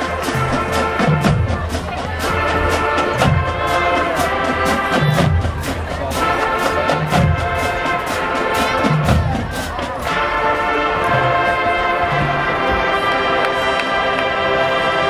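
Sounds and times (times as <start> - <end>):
drumline percussion hits: 0.0 - 15.0
marching band playing: 0.0 - 15.0.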